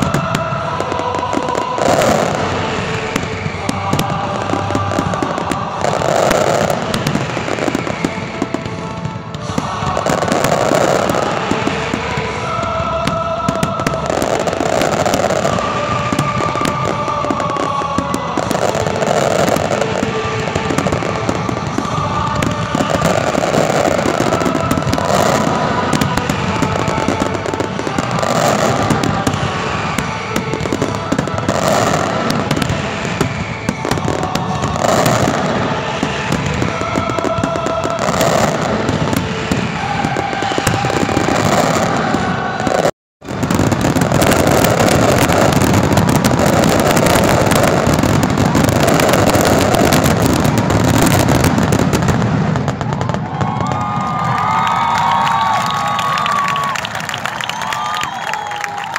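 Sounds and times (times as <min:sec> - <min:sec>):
fireworks crackling and bangs: 0:00.0 - 0:58.9.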